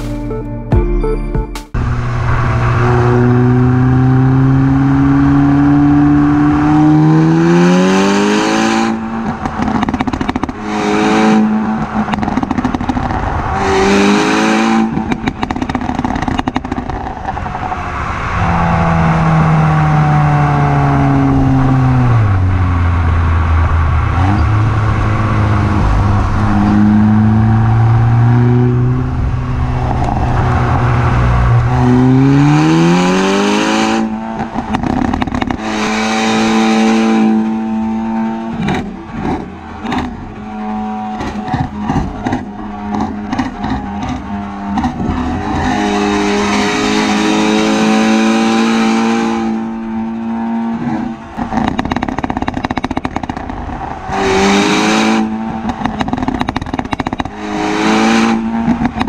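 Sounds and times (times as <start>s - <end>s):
car engine exhaust revving: 1.8s - 59.0s.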